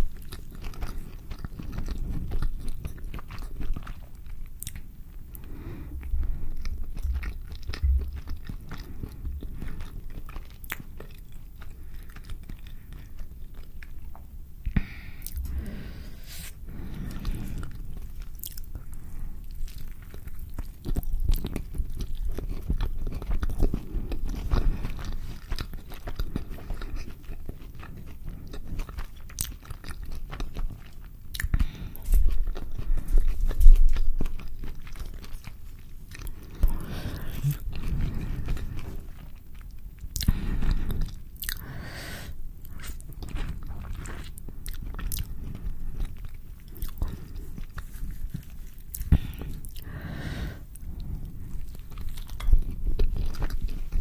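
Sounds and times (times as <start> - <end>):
moist chewing: 0.0 - 54.0.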